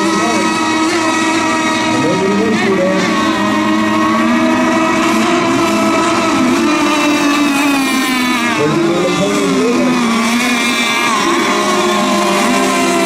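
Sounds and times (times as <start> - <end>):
rc boat engines buzzing: 0.0 - 13.0.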